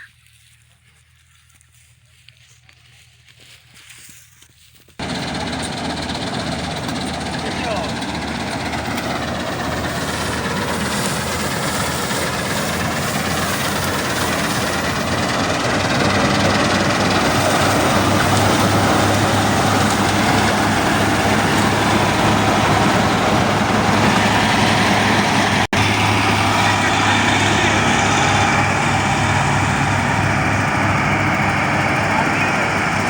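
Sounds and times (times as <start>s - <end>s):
combine harvester running: 5.0s - 33.0s.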